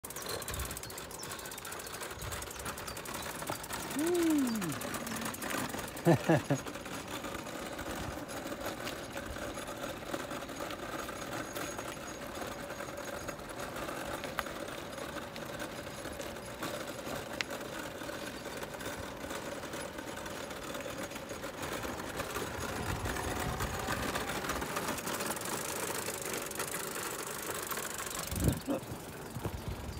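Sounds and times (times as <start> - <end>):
tyre noise on tarmac: 0.0 - 29.9.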